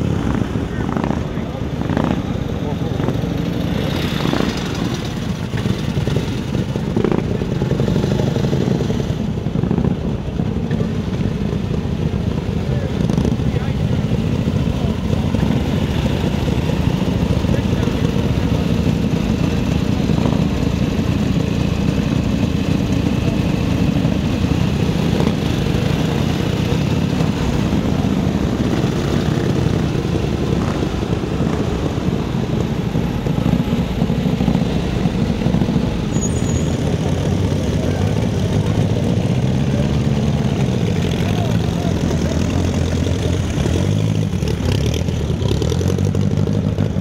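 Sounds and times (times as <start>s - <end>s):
motorcycle engines idling: 0.0s - 47.0s.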